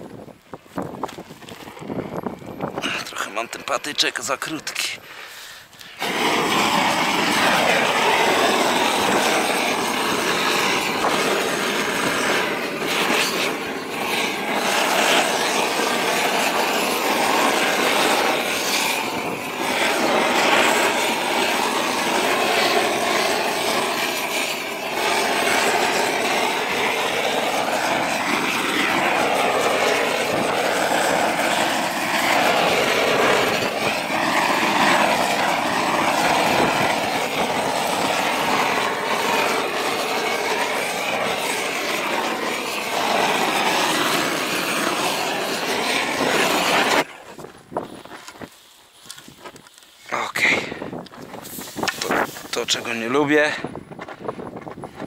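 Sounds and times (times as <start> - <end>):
gas torch burning: 0.0 - 55.0.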